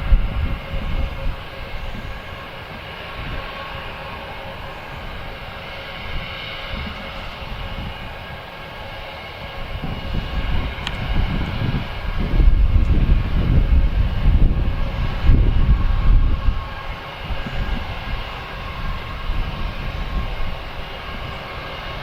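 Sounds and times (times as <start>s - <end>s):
jet engines whining: 0.0s - 22.0s
wind buffeting microphone: 0.0s - 22.0s.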